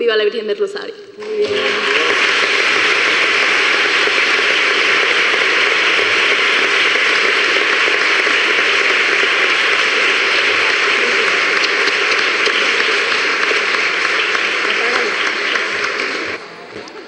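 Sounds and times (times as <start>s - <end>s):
audience applauding: 1.2s - 17.0s.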